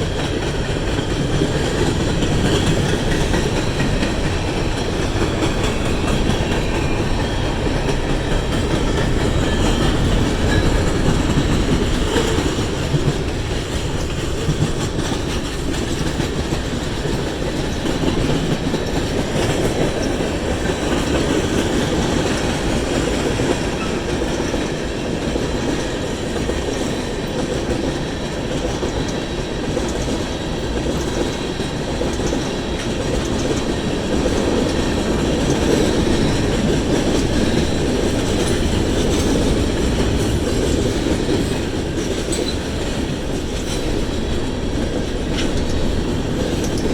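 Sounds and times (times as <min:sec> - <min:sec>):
train wheels rumbling on rails: 0:00.0 - 0:46.9
wheels clicking over rail joints: 0:00.0 - 0:46.9.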